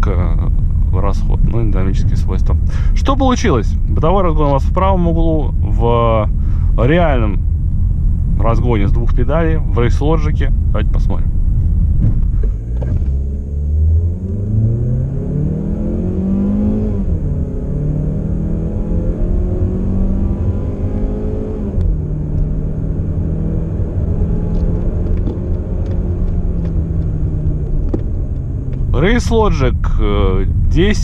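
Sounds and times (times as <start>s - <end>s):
car engine revving under full throttle: 0.0s - 31.0s.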